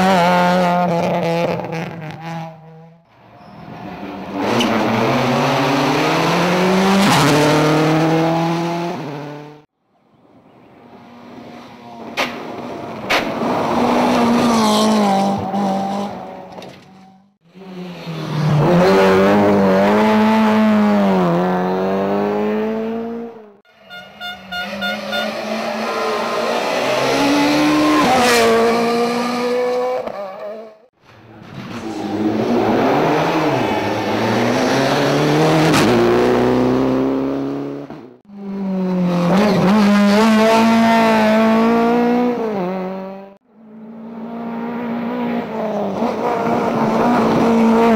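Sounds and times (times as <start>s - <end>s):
rally car engines revving: 0.0s - 9.7s, 10.9s - 23.6s, 24.4s - 47.9s.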